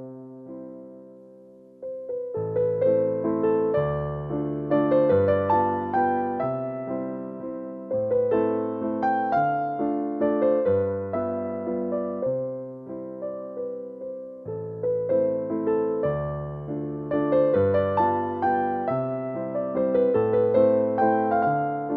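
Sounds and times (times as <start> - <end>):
electric piano melody: 0.0 - 21.9.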